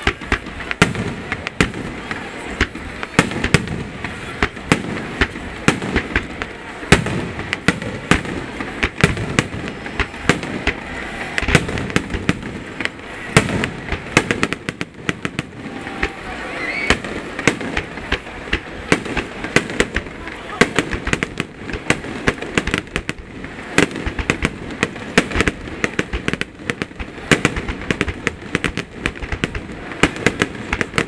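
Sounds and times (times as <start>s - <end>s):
fireworks bursting: 0.0s - 31.0s.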